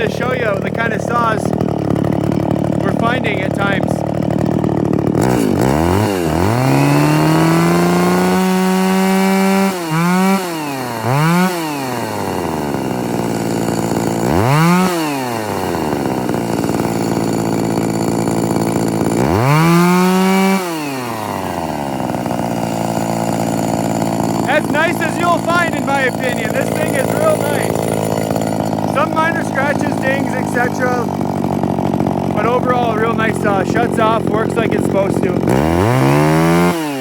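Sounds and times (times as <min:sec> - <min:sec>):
chainsaw revving and idling: 0:00.0 - 0:37.0.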